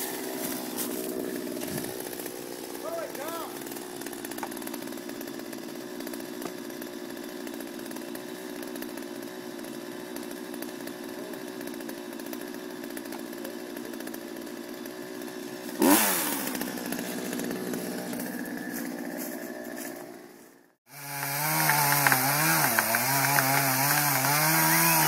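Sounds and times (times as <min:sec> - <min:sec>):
chainsaw running: 0:00.0 - 0:25.0.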